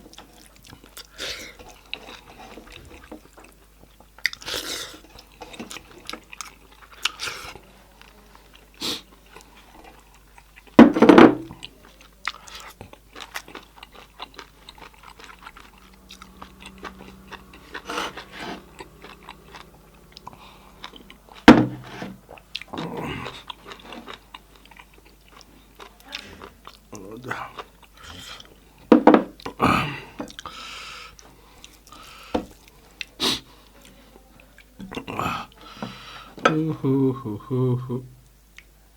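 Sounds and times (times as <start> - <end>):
chewing: 0.0 - 10.8, 11.5 - 36.7.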